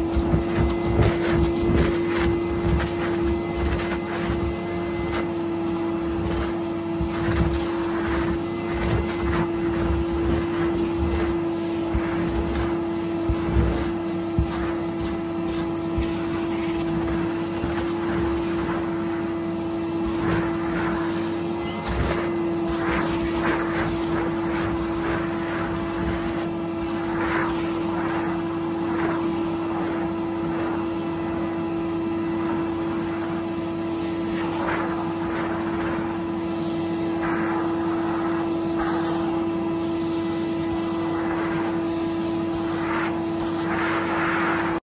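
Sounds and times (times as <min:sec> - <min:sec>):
vacuum cleaner motor hum: 0:00.0 - 0:44.9
vacuum floor tool sweeping rug: 0:00.0 - 0:44.9.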